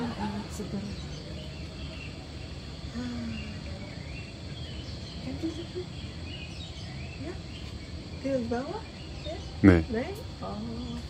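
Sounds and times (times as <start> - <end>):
birds chirping: 0.0 - 11.0
insects chirping: 0.0 - 11.0.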